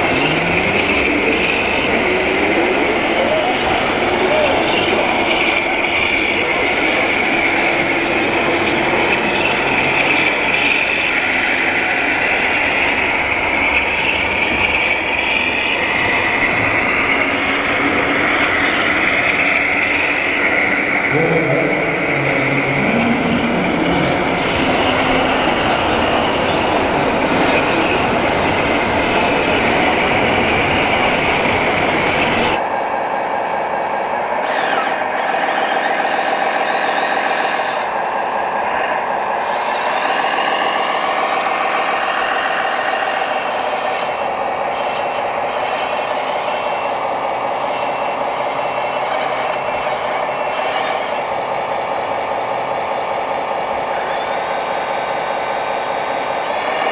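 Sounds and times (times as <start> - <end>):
hydraulic pump whine: 0.0 - 56.9.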